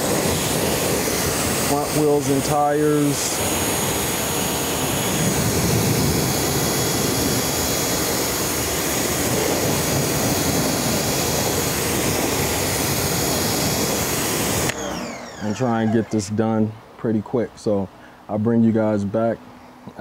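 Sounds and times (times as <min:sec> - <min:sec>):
pressure washer spray hiss: 0:00.0 - 0:16.3
high whine: 0:00.0 - 0:16.8.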